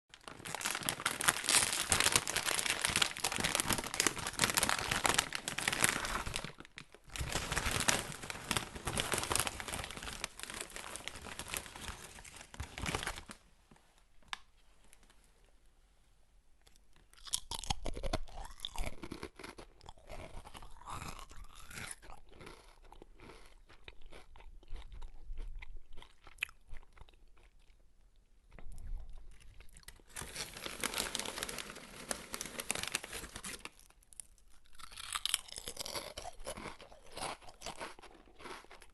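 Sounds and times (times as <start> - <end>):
person crunching chips: 0.1 - 13.4, 16.9 - 27.8, 28.5 - 38.9.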